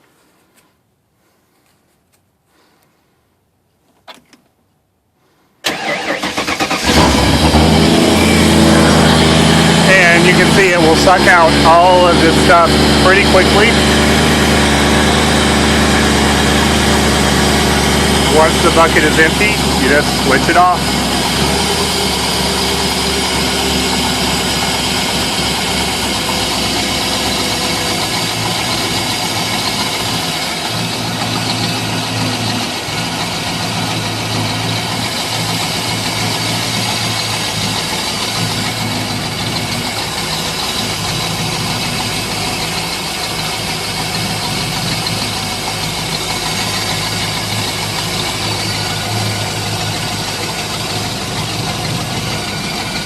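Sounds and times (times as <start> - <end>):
boat engine idling: 8.0 - 53.0.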